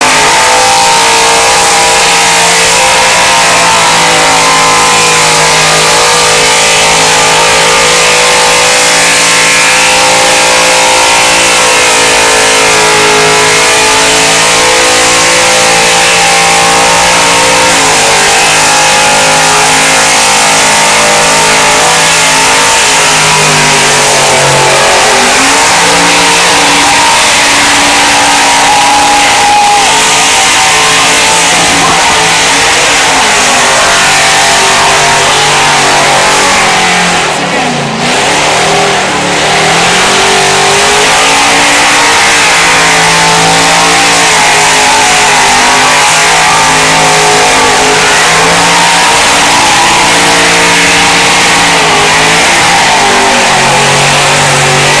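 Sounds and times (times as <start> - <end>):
spinning tyres hissing: 0.0 - 55.0
truck engine revving high: 0.0 - 55.0.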